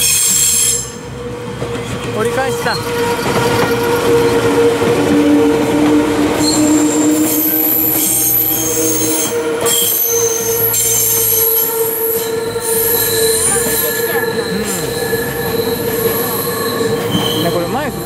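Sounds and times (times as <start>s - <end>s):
train wheels squealing: 0.0s - 1.1s, 2.4s - 4.7s, 6.4s - 18.0s
train cars rumbling on rails: 0.0s - 18.0s.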